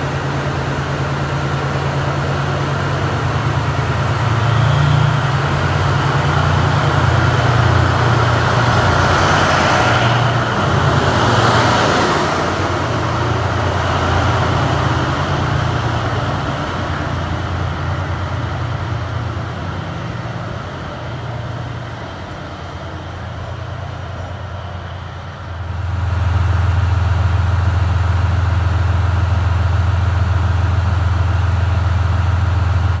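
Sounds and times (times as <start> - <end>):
locomotive engine drone: 0.0 - 33.0.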